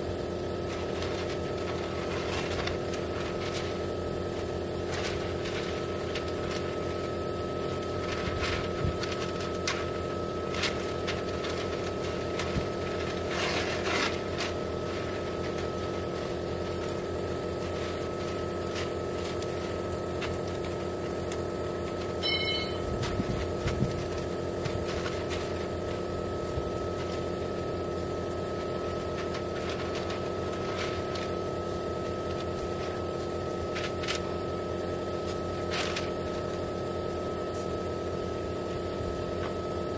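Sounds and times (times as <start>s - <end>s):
mechanical hum with high whine: 0.0s - 39.9s
masking paper crinkling: 0.2s - 36.8s.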